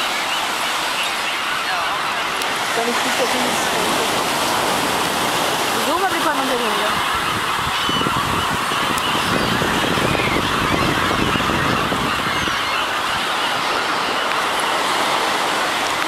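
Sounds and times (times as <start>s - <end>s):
gulls calling: 0.0s - 16.0s
surf washing: 0.0s - 16.0s.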